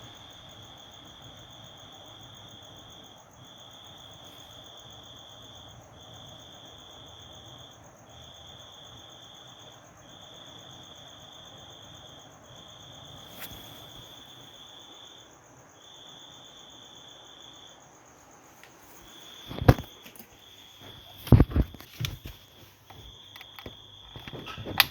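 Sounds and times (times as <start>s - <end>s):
cricket trilling: 0.0s - 24.9s.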